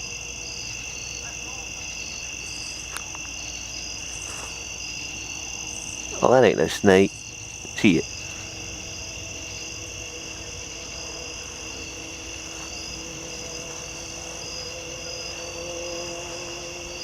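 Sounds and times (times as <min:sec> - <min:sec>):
insects buzzing: 0:00.0 - 0:17.0
pulsing insect trill: 0:00.0 - 0:17.0.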